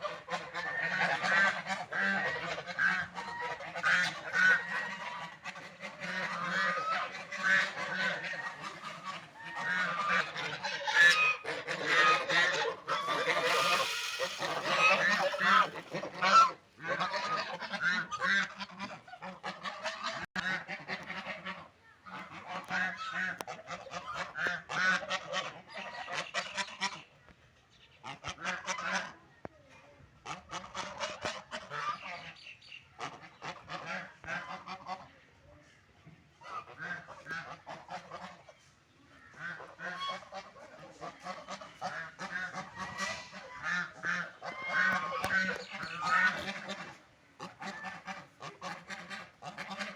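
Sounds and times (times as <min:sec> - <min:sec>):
ducks quacking: 0:00.0 - 0:27.1, 0:28.0 - 0:29.2, 0:33.0 - 0:35.2, 0:36.4 - 0:49.9.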